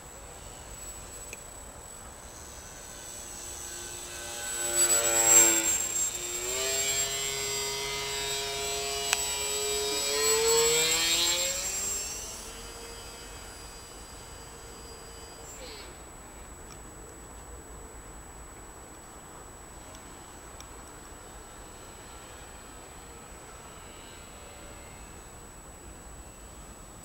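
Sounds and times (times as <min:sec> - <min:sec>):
model plane propeller buzzing: 0:00.0 - 0:18.0, 0:19.4 - 0:27.0.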